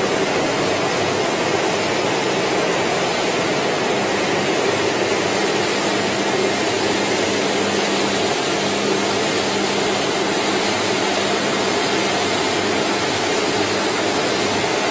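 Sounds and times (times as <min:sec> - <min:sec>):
steady machine hum: 0:00.0 - 0:14.9.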